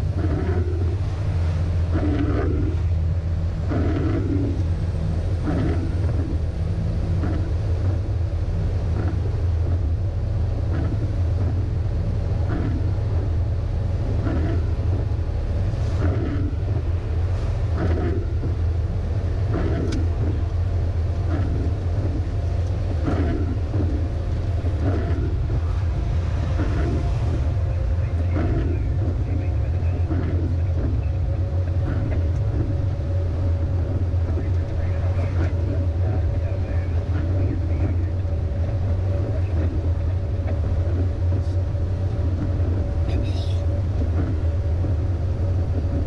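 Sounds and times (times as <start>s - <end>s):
diesel truck engine drone: 0.0s - 46.0s.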